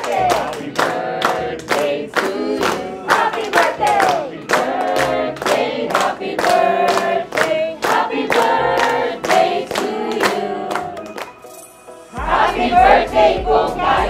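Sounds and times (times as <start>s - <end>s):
group singing together: 0.0s - 11.3s, 12.1s - 14.0s
people clapping in time: 0.0s - 11.5s.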